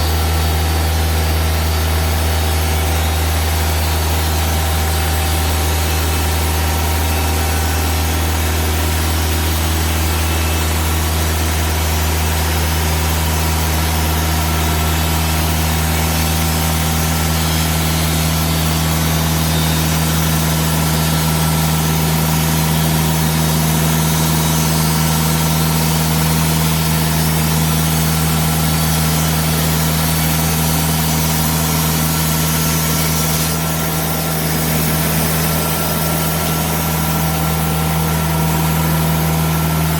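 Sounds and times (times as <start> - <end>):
band sawmill engine drone: 0.0 - 39.9.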